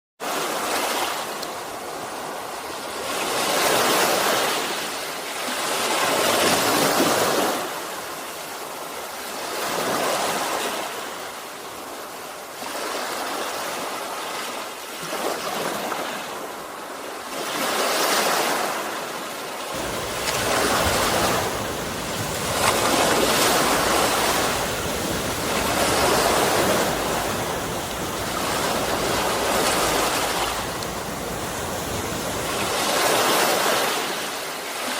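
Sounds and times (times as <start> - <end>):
sea waves breaking on shore: 0.2 - 34.9.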